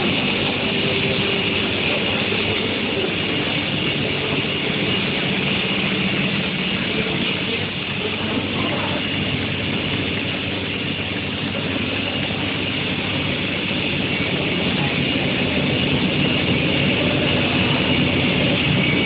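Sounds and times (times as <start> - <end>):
high machine whine: 0.0 - 19.0
industrial machinery drone: 0.0 - 19.0.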